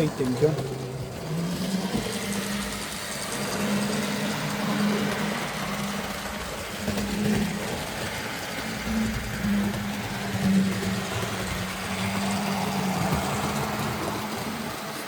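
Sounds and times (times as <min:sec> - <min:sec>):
electric motor hum: 0:00.0 - 0:15.0
wheels rolling on rail: 0:00.0 - 0:15.0.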